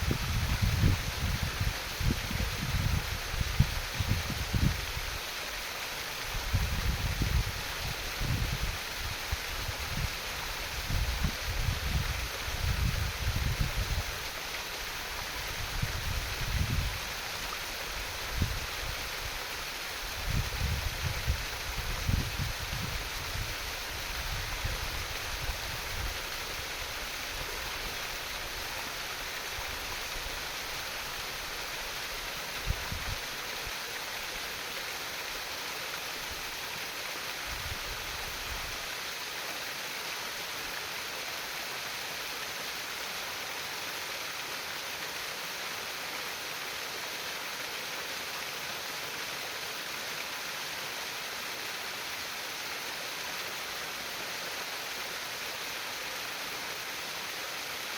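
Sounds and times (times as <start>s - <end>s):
stream water babbling: 0.0s - 57.9s.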